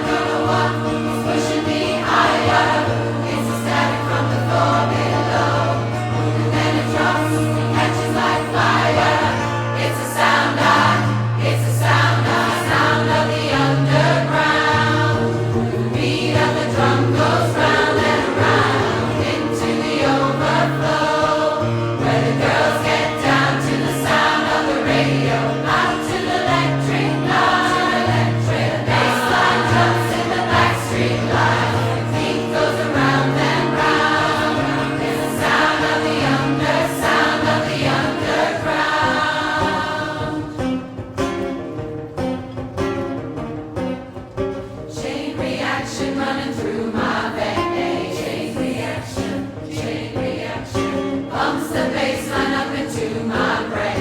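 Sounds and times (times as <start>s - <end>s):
choir singing a pop song: 0.0s - 40.8s, 44.9s - 54.0s.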